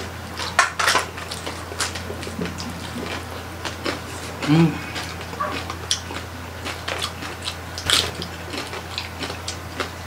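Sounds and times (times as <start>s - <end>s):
low hum: 0.0s - 10.0s
person chewing: 0.0s - 10.0s.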